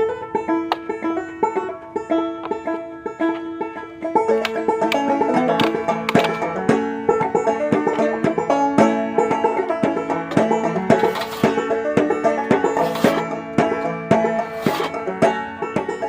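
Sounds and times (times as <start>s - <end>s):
plucked-string instrumental music: 0.0s - 16.0s.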